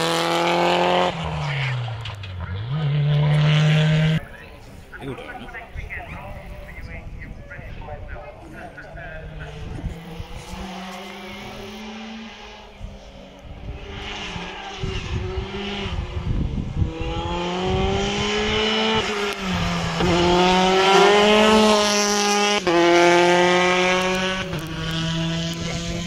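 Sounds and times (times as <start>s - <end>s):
rally car engine revving: 0.0s - 4.3s, 8.5s - 26.0s.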